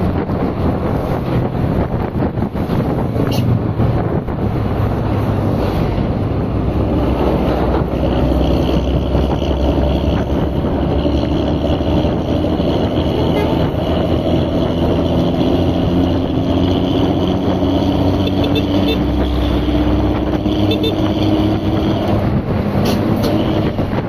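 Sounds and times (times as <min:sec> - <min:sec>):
vehicle engine running: 0:00.0 - 0:24.0
wind noise: 0:00.0 - 0:24.0.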